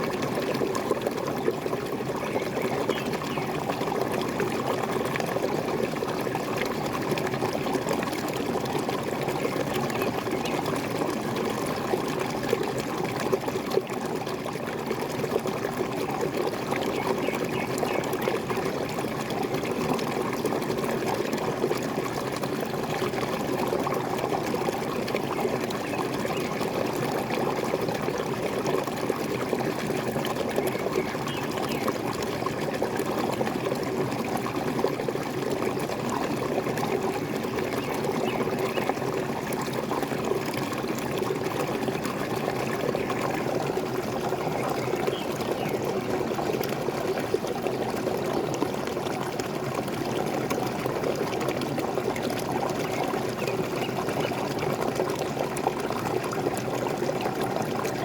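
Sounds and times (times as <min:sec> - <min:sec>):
waterfall pouring: 0:00.0 - 0:58.0.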